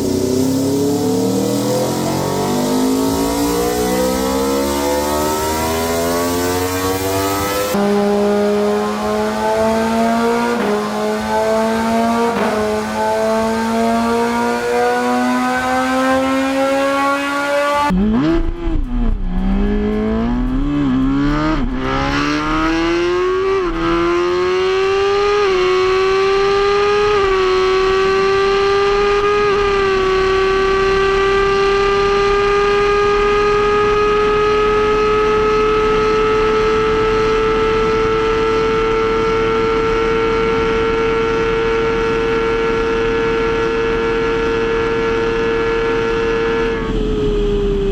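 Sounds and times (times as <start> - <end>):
motorcycle engine at full throttle: 0.0 - 47.9.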